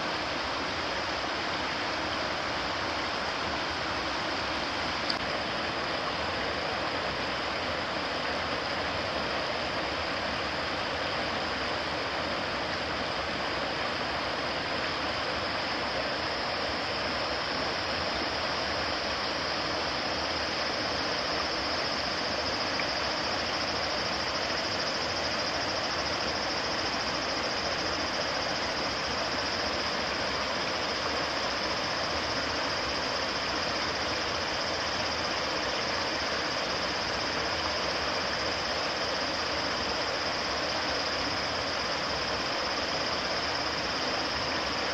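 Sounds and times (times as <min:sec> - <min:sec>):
high-pitched hiss: 0:00.0 - 0:44.9
stream water rushing: 0:00.0 - 0:44.9.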